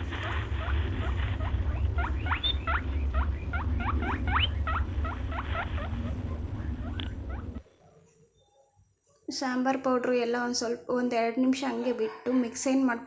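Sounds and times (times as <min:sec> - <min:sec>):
low steady hum: 0:00.0 - 0:11.1.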